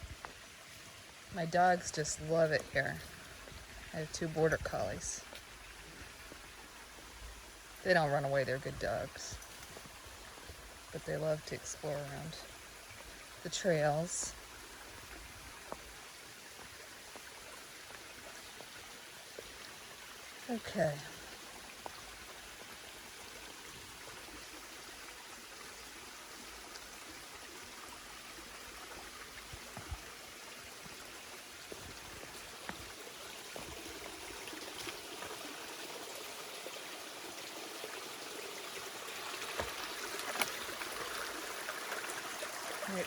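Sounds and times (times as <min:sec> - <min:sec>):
stream water running: 0:00.0 - 0:43.0.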